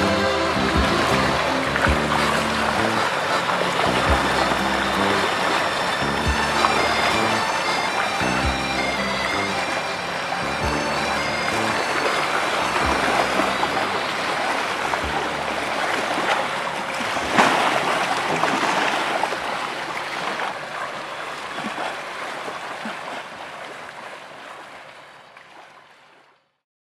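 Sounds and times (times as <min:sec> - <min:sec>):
water rushing and splashing: 0:00.0 - 0:26.2.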